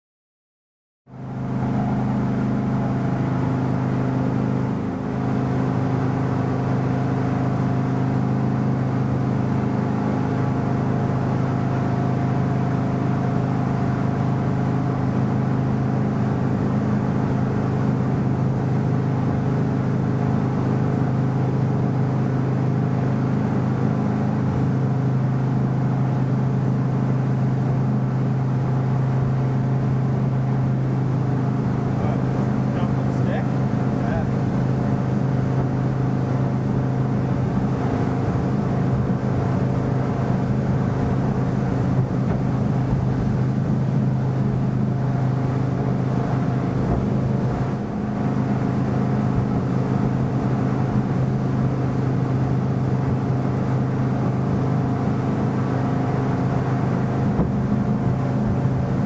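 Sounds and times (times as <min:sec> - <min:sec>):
motorboat engine drone: 0:01.1 - 0:59.0
water and wind noise: 0:01.1 - 0:59.0.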